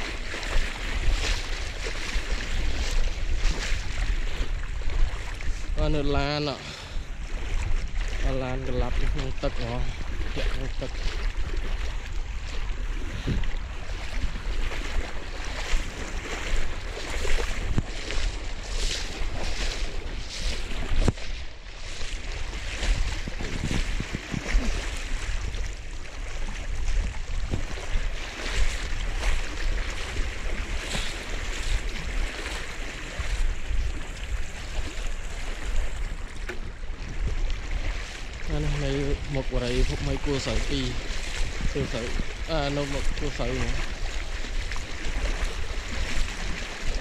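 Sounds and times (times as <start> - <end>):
water churning and splashing: 0.0 - 47.0
wind buffeting microphone: 0.0 - 47.0.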